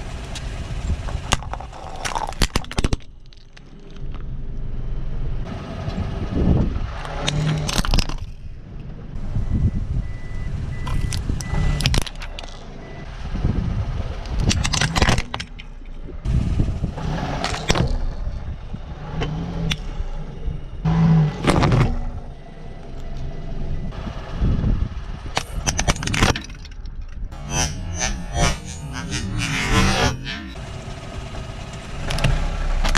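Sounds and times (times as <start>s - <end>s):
low rumble of car: 0.0s - 32.9s.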